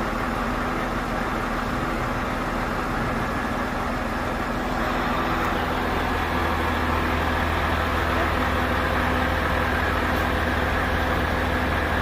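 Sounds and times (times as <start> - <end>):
road noise: 0.0 - 12.0
truck engine running: 0.0 - 12.0.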